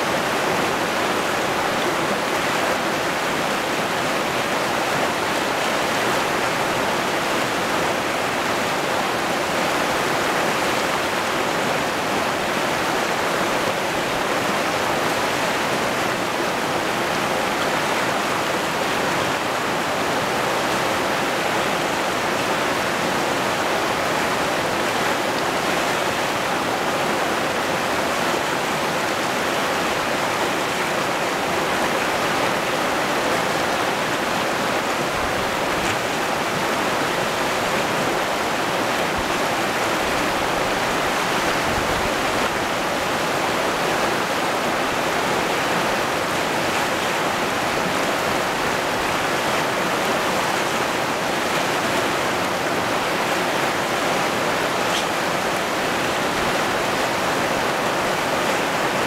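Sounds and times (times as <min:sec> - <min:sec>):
river rushing over boulders: 0:00.0 - 0:59.0.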